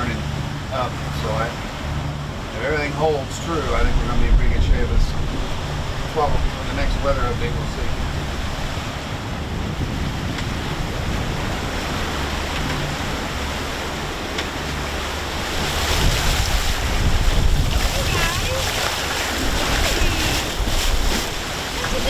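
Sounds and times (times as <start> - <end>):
sea water rushing: 0.0 - 22.0
wind buffeting microphone: 0.0 - 22.0.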